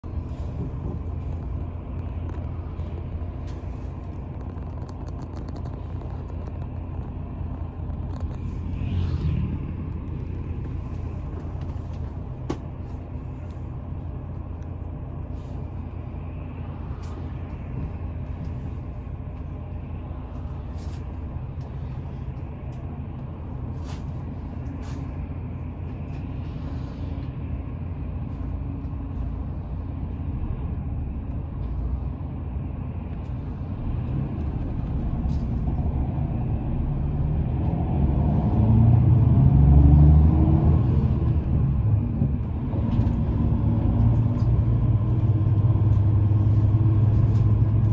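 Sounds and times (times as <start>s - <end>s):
low outdoor rumble: 0.0s - 47.9s.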